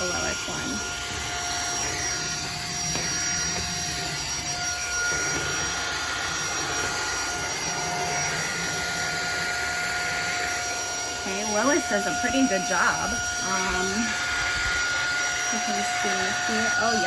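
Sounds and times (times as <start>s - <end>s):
handheld vacuum running: 0.0s - 17.0s.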